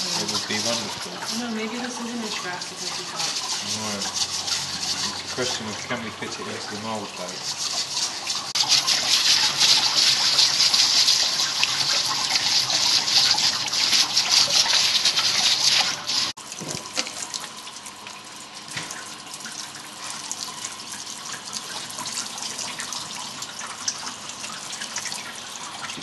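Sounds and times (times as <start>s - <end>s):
water running hard splashing: 0.0s - 26.0s.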